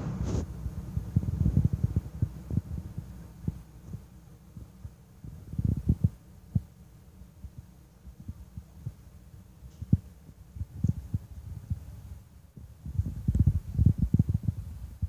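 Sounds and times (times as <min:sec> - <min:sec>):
wind buffeting microphone: 0:00.0 - 0:06.8, 0:07.4 - 0:15.0.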